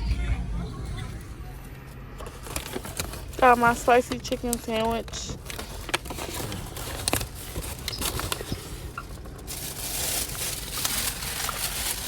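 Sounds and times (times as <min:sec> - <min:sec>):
paper bag and wrappers rustling: 0:01.8 - 0:12.0.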